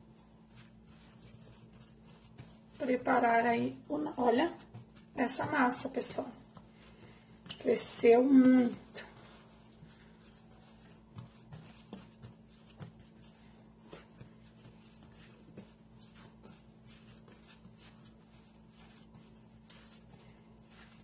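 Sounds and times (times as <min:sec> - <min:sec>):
dough rubbing on countertop: 0:00.0 - 0:21.0
soft thumps of kneaded dough: 0:00.0 - 0:21.0.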